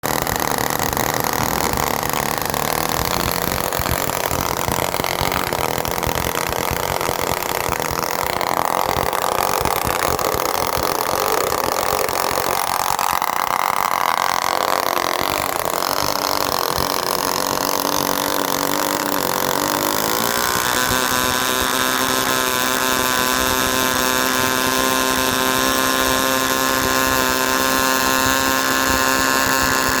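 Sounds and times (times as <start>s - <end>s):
model aircraft engine running: 0.0s - 30.0s.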